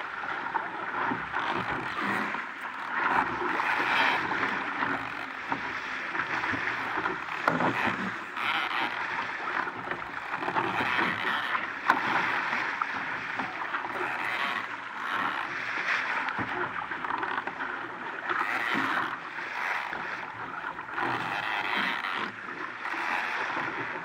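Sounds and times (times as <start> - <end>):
water rushing along a boat hull: 0.0 - 24.0.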